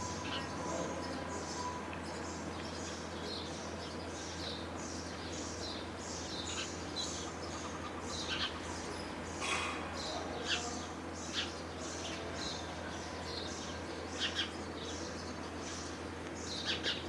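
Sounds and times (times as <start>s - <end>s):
low steady hum: 0.0s - 17.0s
sparrows chirping: 0.0s - 17.0s.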